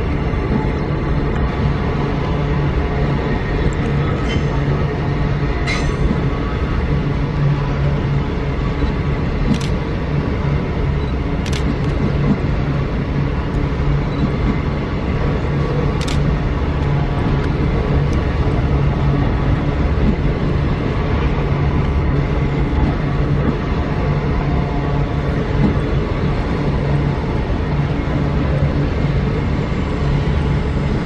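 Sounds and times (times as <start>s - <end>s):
locomotive rumble: 0.0s - 31.0s.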